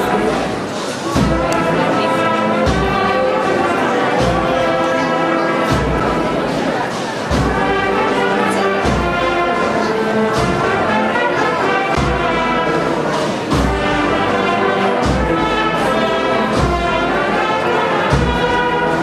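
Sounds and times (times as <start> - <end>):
brass band playing a march: 0.0 - 19.0.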